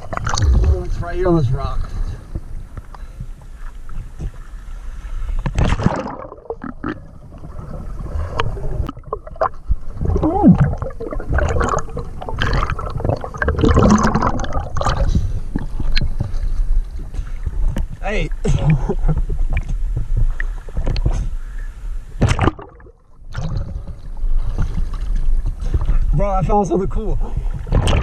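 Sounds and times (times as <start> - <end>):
underwater gurgling and bubbling: 0.0 - 2.8, 5.6 - 21.3, 22.2 - 26.2, 27.3 - 28.0
water splashing and sloshing: 0.0 - 28.0.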